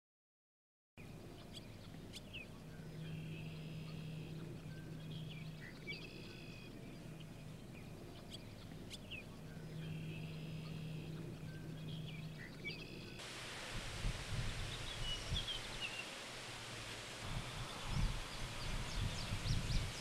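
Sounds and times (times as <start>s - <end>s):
swallows chirping and twittering: 1.0s - 13.2s, 14.4s - 20.0s
low steady hum: 1.0s - 20.0s.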